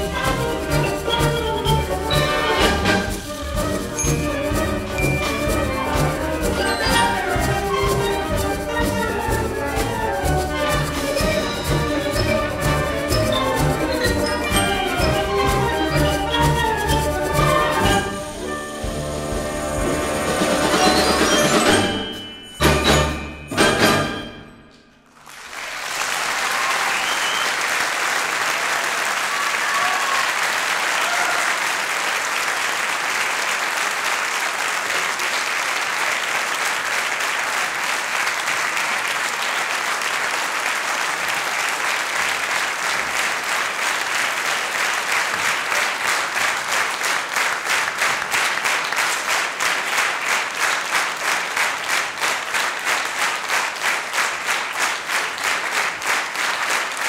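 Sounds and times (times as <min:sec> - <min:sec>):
audience applauding: 0:00.0 - 0:21.9, 0:25.1 - 0:57.0.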